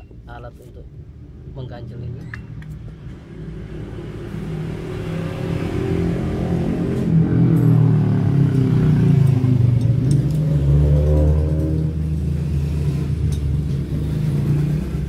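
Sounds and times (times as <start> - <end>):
engine running low drone: 0.0 - 15.0.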